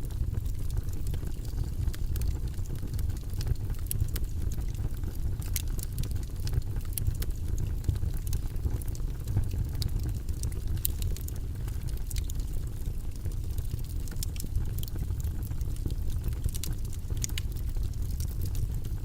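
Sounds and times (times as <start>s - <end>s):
low white noise: 0.0s - 19.0s.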